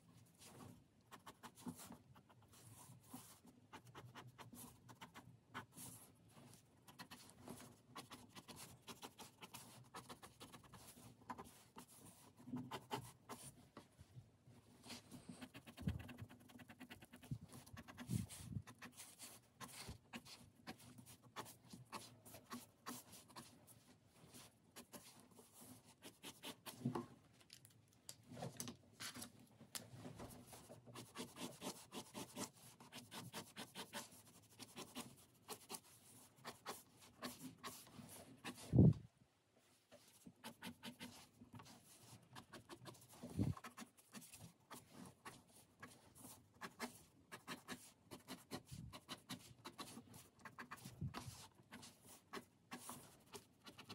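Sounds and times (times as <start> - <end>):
pen scratching on paper: 1.1 - 13.6, 15.3 - 23.6, 24.3 - 26.8, 30.6 - 38.8, 40.0 - 53.9.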